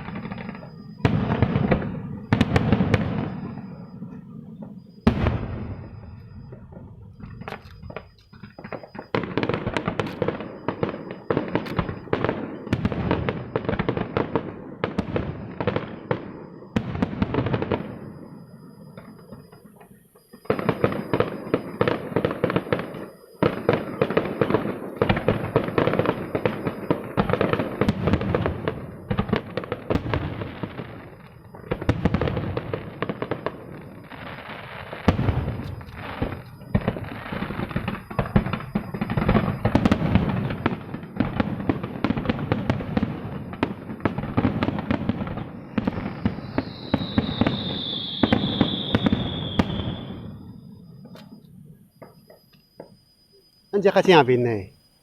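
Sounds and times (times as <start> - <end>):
fireworks bursts and crackling: 0.0 - 54.9.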